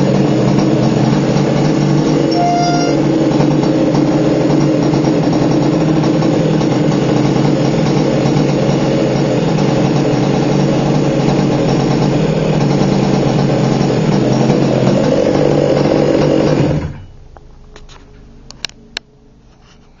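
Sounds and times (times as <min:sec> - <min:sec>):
two-stroke engine running: 0:00.0 - 0:17.0.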